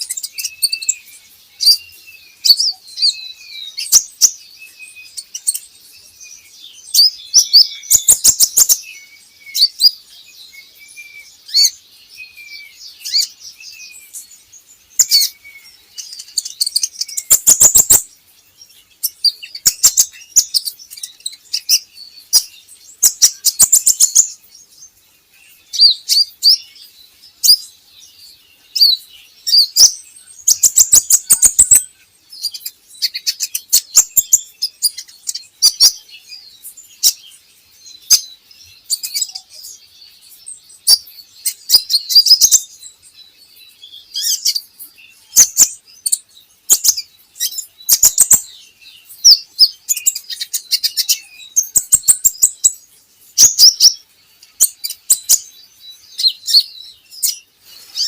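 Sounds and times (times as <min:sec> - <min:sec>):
bird chirps and rattling trills: 0:00.0 - 0:58.0.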